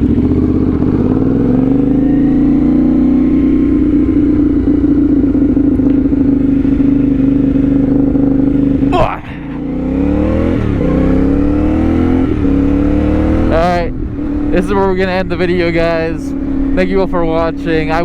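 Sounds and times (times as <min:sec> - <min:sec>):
motorcycle engine running loudly: 0:00.0 - 0:18.0.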